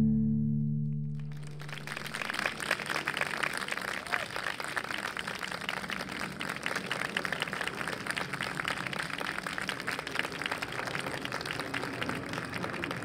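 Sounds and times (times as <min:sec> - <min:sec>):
audience applauding: 0:01.2 - 0:13.0.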